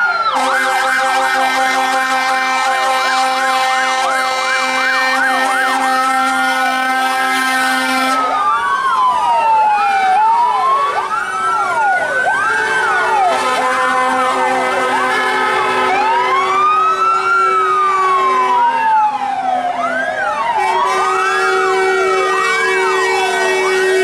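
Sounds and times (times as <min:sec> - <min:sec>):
fast yelping siren: 0:00.0 - 0:24.0
fire truck sirens held tones: 0:00.0 - 0:24.0
rising and falling siren wails: 0:00.0 - 0:24.0.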